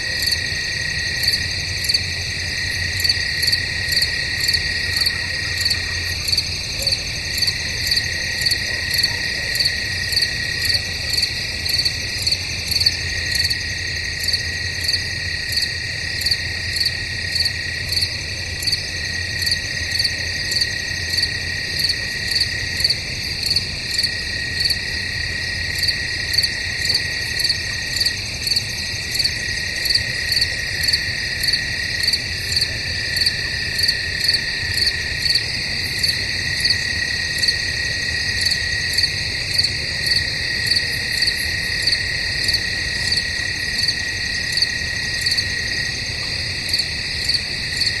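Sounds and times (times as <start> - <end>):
crickets trilling: 0.0 - 48.0
pulsing cricket chirps: 0.0 - 48.0.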